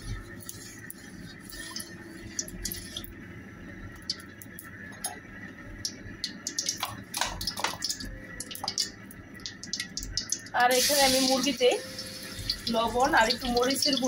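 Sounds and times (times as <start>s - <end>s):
hot oil crackling and popping: 0.5s - 3.1s, 3.9s - 14.0s.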